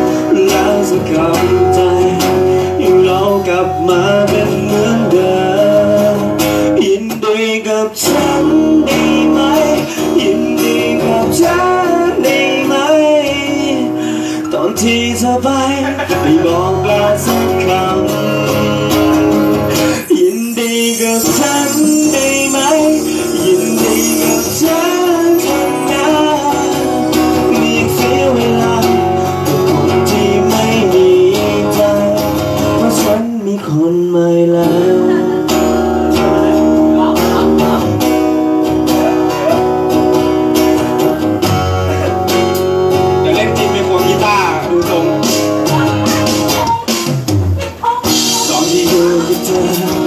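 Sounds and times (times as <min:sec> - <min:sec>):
live band playing: 0:00.0 - 0:50.0
bent electric guitar notes: 0:08.0 - 0:33.2, 0:34.2 - 0:50.0.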